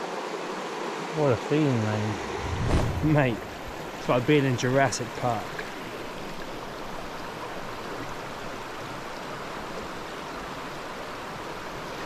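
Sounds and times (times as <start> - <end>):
river running over stones: 0.0 - 12.0.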